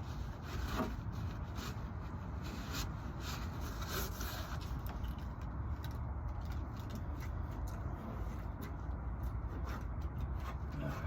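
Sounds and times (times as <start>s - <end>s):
light rubbing and scraping: 0.0s - 11.0s.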